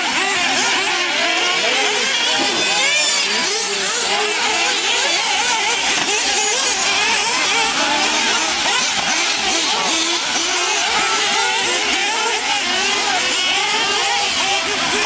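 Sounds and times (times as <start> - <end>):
rc car engines buzzing and revving: 0.0 - 15.0.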